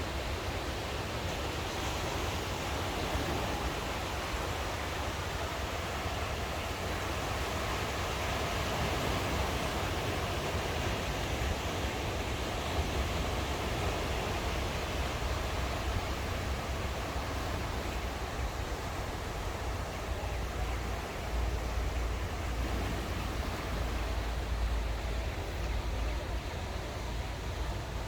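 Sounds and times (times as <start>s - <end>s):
ocean surf washing ashore: 0.0s - 28.0s.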